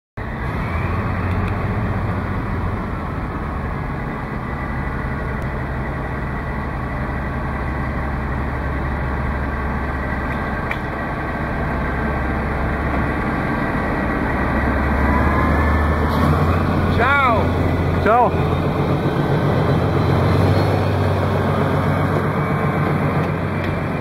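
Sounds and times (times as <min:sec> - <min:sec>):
diesel locomotive engine humming: 0:00.2 - 0:24.0.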